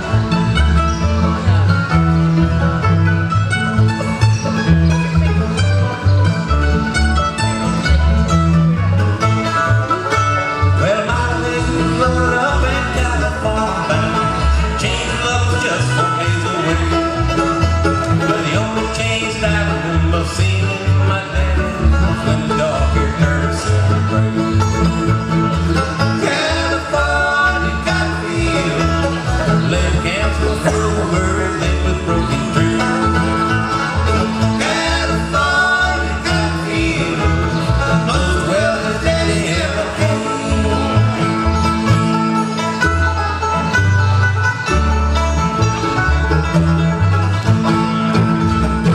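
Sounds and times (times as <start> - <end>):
acoustic guitar: 0.0 - 48.9
banjo: 0.0 - 48.9
mandolin: 0.0 - 48.9
upright bass notes: 0.0 - 48.9.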